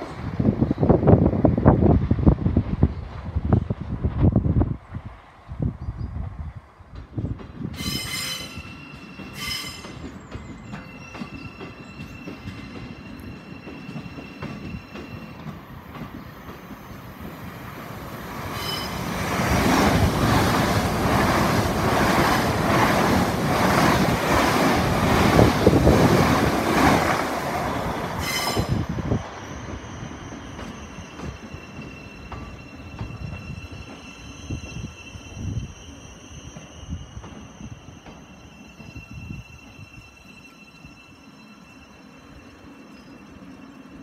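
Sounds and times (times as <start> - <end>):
train rushing past platform: 0.0 - 44.0.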